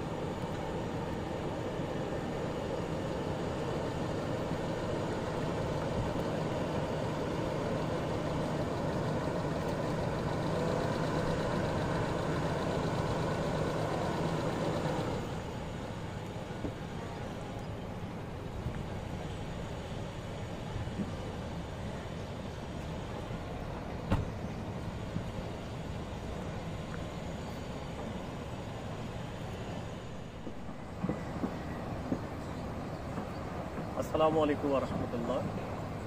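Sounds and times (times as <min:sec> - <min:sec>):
vehicle engine running at low revs: 0:00.0 - 0:36.0.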